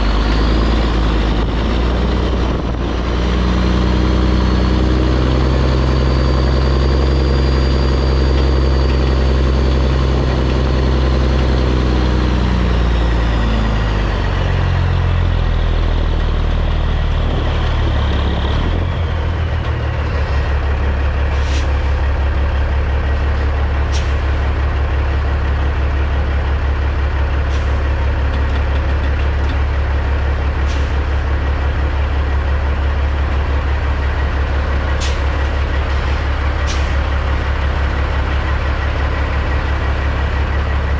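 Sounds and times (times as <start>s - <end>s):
diesel engine idling: 0.0s - 40.9s
diesel truck engine revving: 0.0s - 40.9s.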